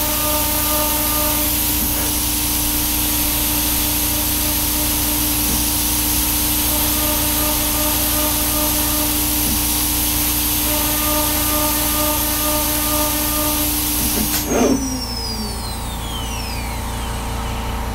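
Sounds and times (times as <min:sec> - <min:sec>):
air nozzle hiss: 0:00.0 - 0:17.0
router spindle running: 0:00.0 - 0:17.9
spindle winding down whine: 0:00.0 - 0:17.9.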